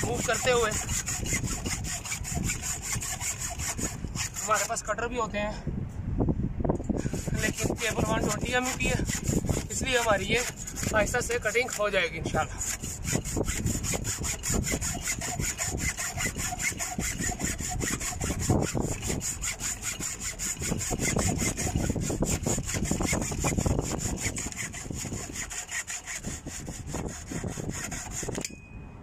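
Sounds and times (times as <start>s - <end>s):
hacksaw cutting through cable: 0.0s - 5.1s, 7.0s - 28.5s.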